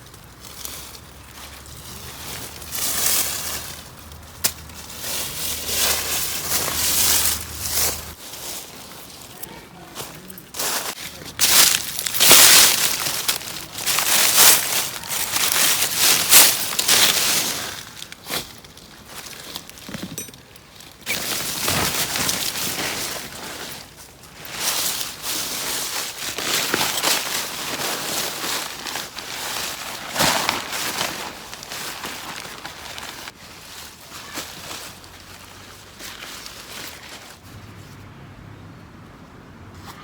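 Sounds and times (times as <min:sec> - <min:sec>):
rustling and crinkling handling noise: 0:00.0 - 0:37.6.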